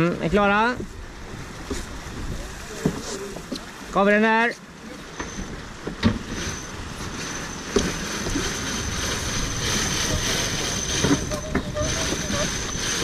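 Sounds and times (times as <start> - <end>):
wind and water rushing: 0.0 - 13.0.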